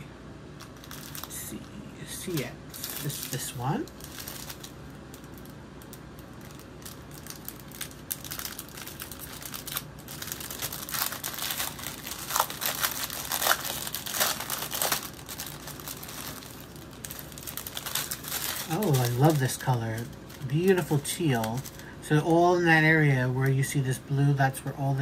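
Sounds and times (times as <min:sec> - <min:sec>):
plastic bags crinkling: 0:00.6 - 0:23.8.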